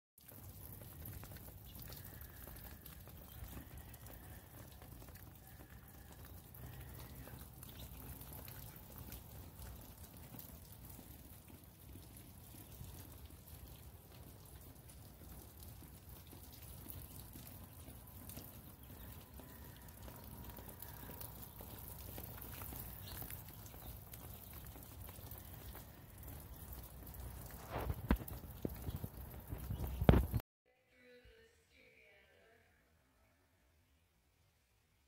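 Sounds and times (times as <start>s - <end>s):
light scattered ticks: 0.3s - 30.4s.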